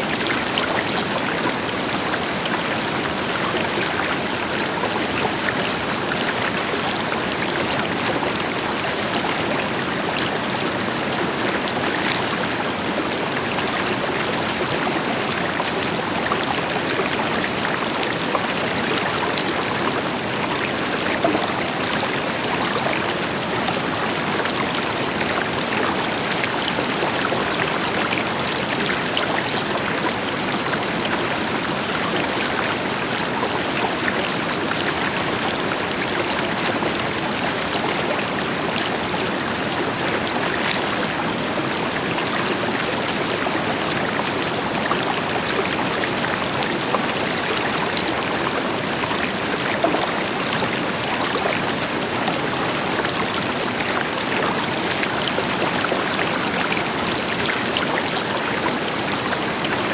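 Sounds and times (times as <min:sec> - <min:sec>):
river flowing over stones: 0:00.0 - 0:59.9.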